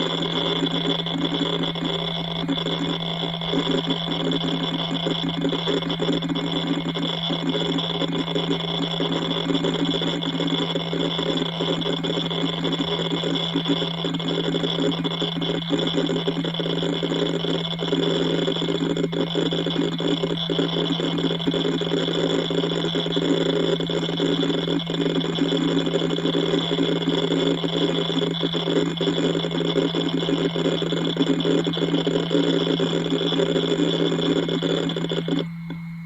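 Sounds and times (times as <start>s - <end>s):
hard drive clicking: 0.0s - 36.0s
hard drive humming: 0.0s - 36.0s.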